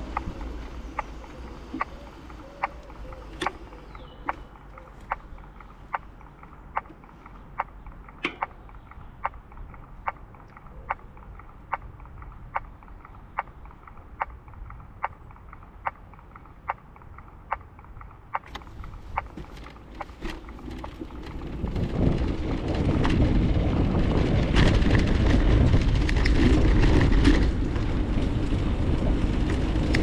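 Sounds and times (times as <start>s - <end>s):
bicycle clicking: 0.0s - 30.0s
low rumble of riding: 0.0s - 30.0s.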